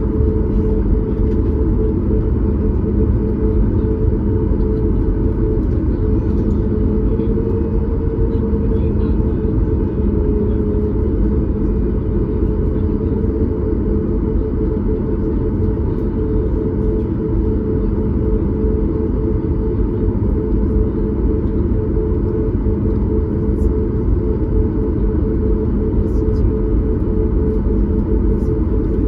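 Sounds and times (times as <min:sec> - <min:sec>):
airflow roar in cabin: 0:00.0 - 0:29.0
airplane engine hum: 0:00.0 - 0:29.0.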